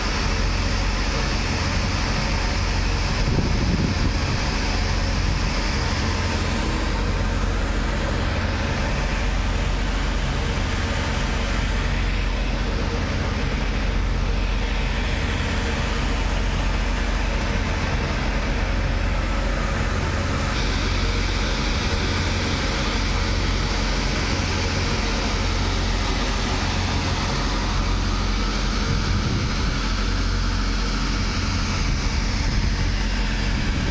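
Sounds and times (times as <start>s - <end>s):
heavy machinery roaring: 0.0s - 33.9s
low hum: 0.0s - 33.9s.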